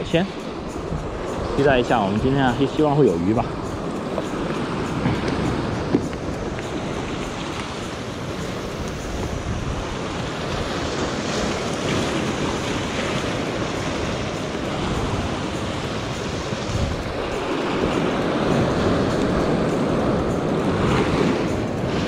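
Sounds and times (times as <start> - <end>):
sea swell washing against rocks: 0.0 - 22.0
wind on microphone: 0.0 - 22.0.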